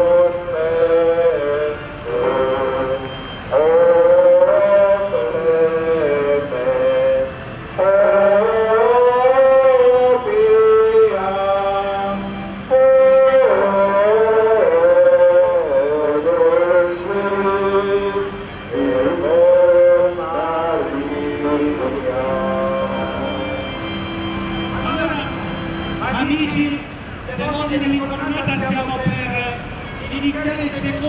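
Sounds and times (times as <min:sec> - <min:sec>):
high voice singing: 0:00.0 - 0:31.0.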